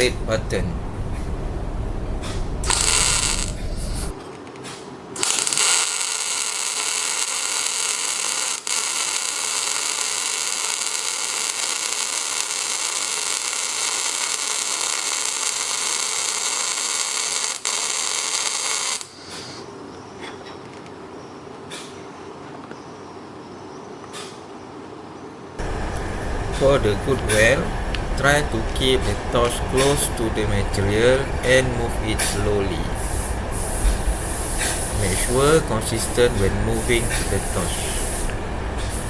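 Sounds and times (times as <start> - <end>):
welding arc crackling and buzzing: 0.0 - 4.2, 5.2 - 19.2, 25.6 - 39.0.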